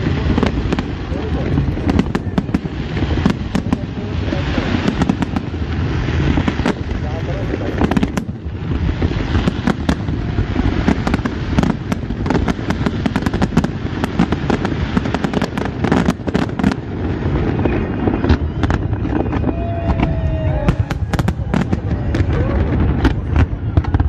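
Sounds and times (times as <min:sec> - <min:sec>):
firework bangs and crackles: 0:00.0 - 0:24.0.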